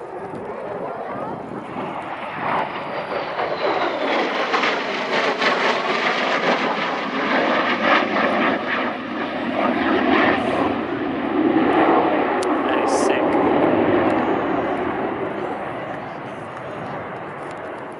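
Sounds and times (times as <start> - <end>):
jet roar with crackle: 0.0 - 17.9.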